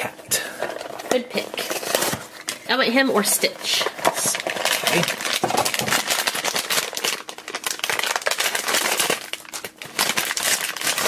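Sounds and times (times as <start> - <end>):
foil packet crinkling: 0.4 - 11.0.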